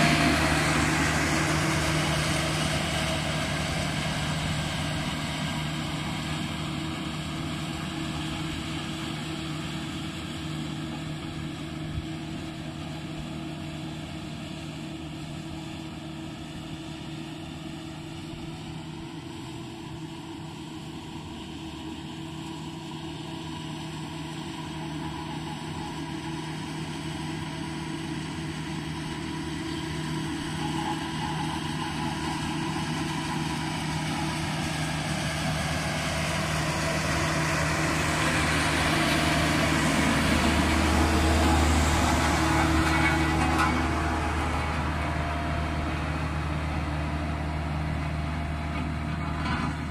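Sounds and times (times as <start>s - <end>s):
road roller diesel engine: 0.0s - 49.9s.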